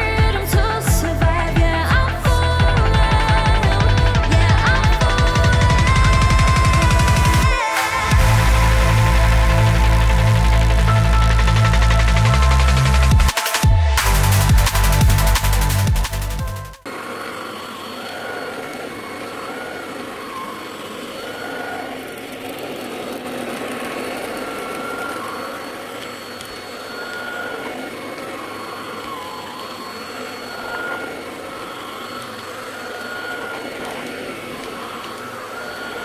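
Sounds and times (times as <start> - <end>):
vacuum cleaner running: 2.8 - 14.2, 16.9 - 36.0.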